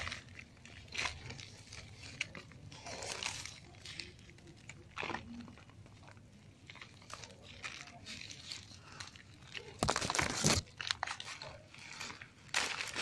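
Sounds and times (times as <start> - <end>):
roots tearing: 0.0 - 6.0, 6.6 - 13.0
soil crumbling: 0.0 - 13.0.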